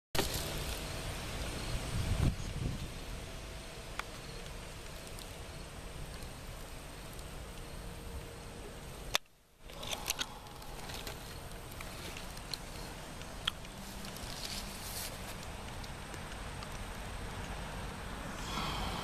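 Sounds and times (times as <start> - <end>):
outdoor background noise: 0.1 - 19.0.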